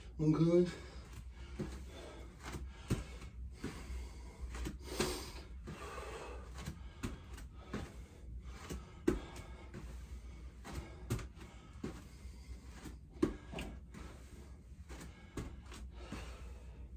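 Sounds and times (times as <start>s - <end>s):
man breathing hard: 0.0s - 16.9s.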